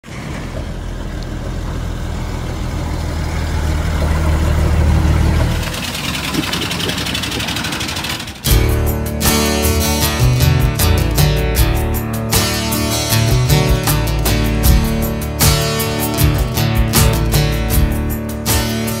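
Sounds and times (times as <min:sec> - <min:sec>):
pickup truck engine running: 0:00.0 - 0:19.0
steady fast rattle: 0:00.2 - 0:19.0.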